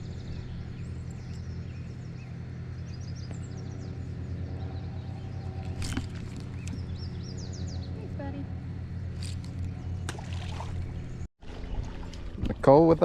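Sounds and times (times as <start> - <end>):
small birds chirping: 0.0 - 11.3
low mechanical hum: 0.0 - 13.0.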